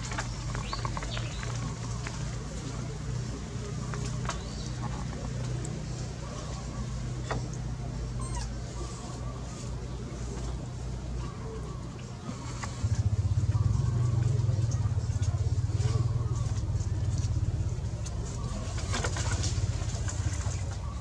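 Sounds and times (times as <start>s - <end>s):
low engine drone: 0.0s - 21.0s
soft cooing calls: 0.0s - 21.0s.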